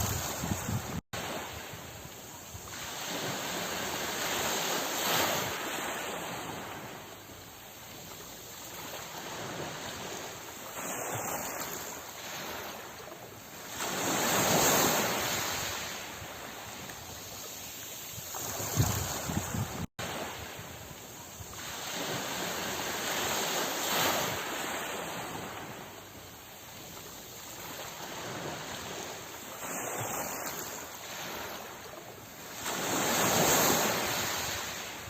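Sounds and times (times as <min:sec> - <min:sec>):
sea waves breaking: 0:00.0 - 0:35.0.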